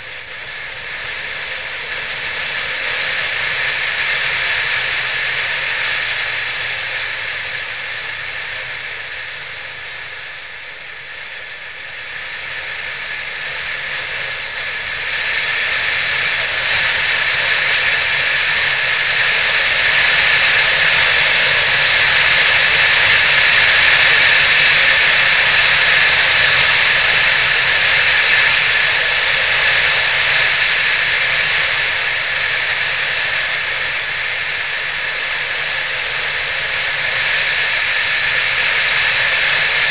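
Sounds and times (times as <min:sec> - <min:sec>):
wind and road noise rushing: 0:00.0 - 0:39.9.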